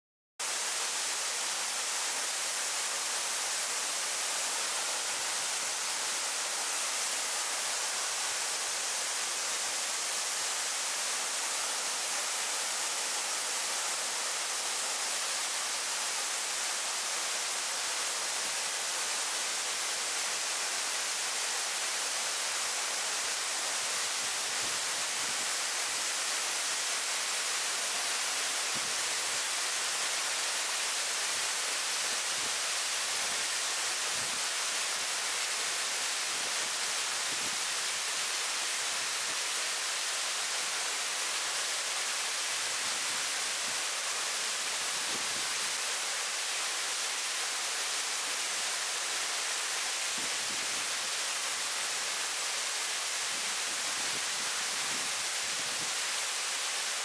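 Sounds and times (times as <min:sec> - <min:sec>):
rushing mountain water: 0:00.4 - 0:57.0.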